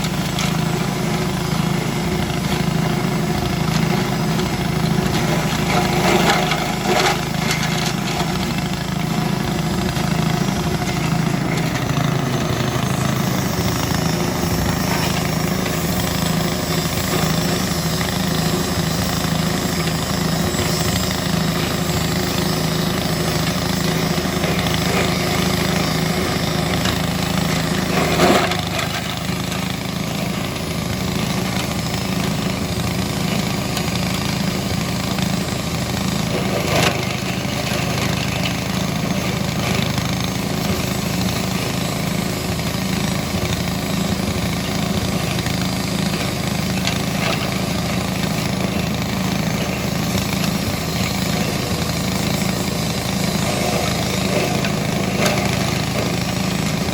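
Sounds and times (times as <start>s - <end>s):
grass chopper engine running: 0.0s - 56.9s.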